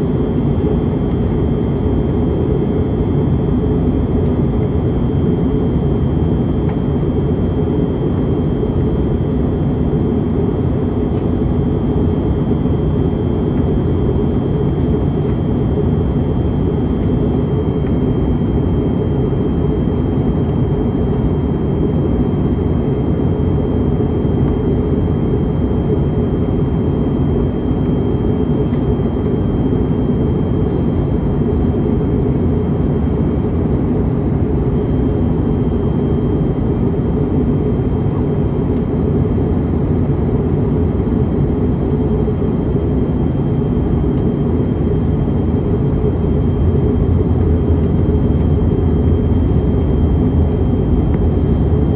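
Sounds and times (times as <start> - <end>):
jet engine and airflow rumble: 0.0 - 51.9.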